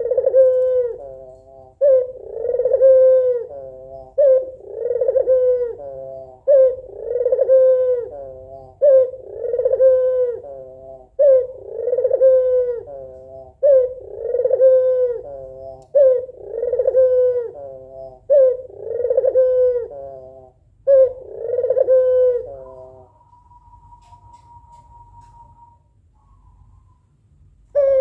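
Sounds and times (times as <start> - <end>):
dove cooing: 0.0 - 27.0, 27.7 - 28.0.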